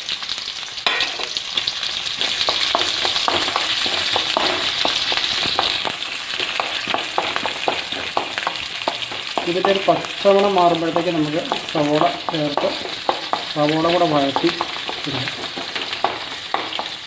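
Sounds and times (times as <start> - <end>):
loud sizzle in hot oil: 0.0 - 17.0
spatula scraping a pan: 2.2 - 17.0.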